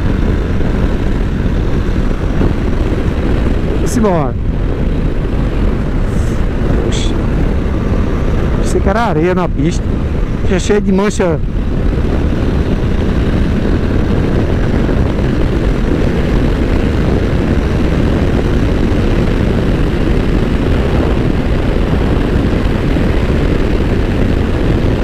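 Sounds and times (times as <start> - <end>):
motorcycle engine drone: 0.0 - 25.0
wind rushing over microphone: 0.0 - 25.0.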